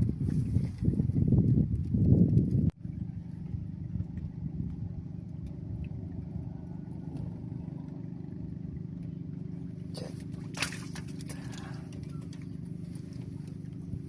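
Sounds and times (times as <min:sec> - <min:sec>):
engine humming: 0:01.7 - 0:14.0.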